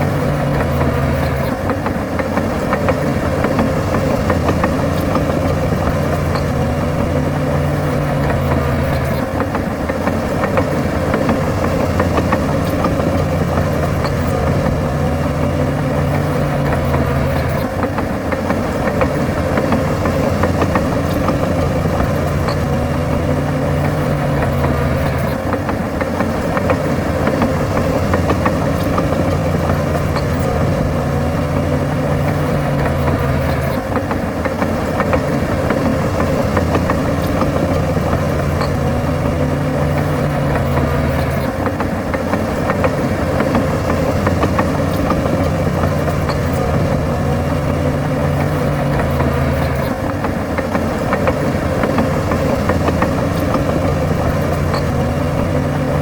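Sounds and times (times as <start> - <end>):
diesel engine rising and falling: 0.0 - 56.0.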